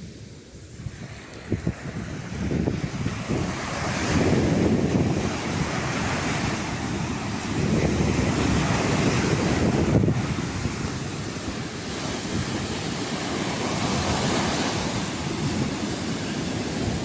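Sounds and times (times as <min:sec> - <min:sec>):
sea waves breaking on a beach: 0:00.0 - 0:17.0
wind rumbling on microphone: 0:00.0 - 0:17.0.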